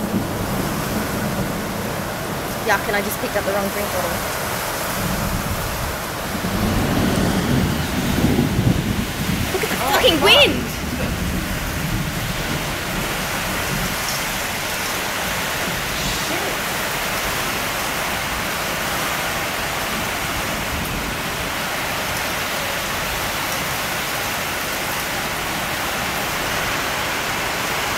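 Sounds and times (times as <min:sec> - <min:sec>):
heavy rain pouring: 0:00.0 - 0:27.9
strong wind: 0:00.0 - 0:27.9.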